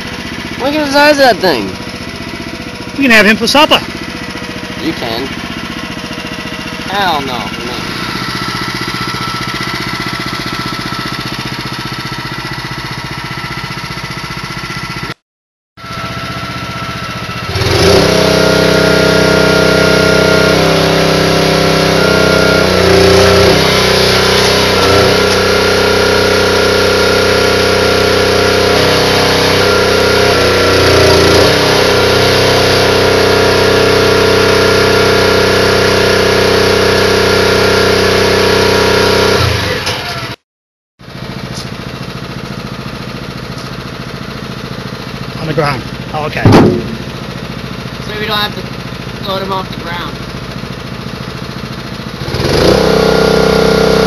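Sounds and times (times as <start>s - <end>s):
log splitter engine running: 0.0s - 15.2s, 15.8s - 40.4s, 41.0s - 54.0s.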